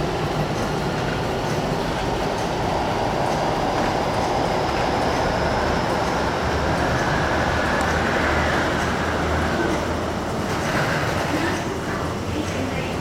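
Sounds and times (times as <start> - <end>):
electric train rolling rumble: 0.0 - 13.0.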